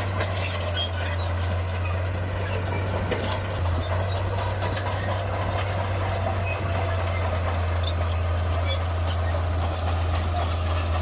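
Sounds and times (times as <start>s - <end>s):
heavy diesel engine running: 0.0s - 11.0s
light metallic clinks and squeaks: 0.2s - 5.3s, 6.4s - 11.0s.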